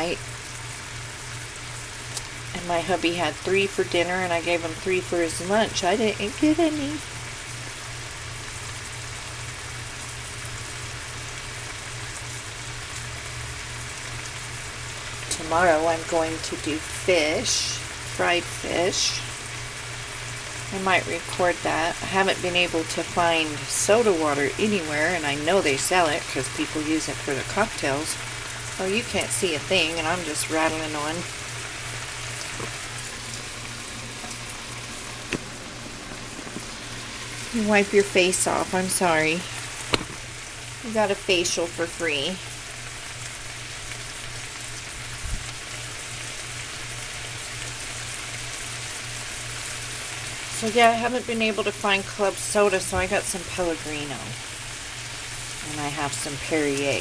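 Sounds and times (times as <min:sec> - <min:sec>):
low steady hum: 0:00.0 - 0:45.8, 0:47.6 - 0:57.0
chicken sizzling in a pan: 0:00.0 - 0:57.0.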